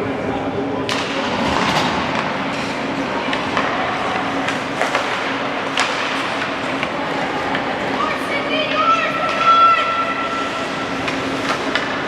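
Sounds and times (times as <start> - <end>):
gym hall hum: 0.0 - 12.0.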